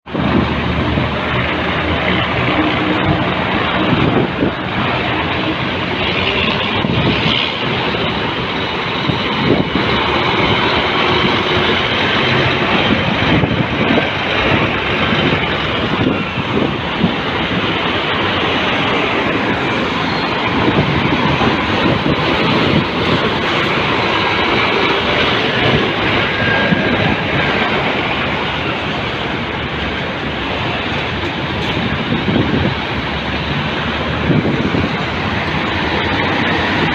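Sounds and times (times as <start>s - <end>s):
truck engine drone: 0.0s - 36.9s.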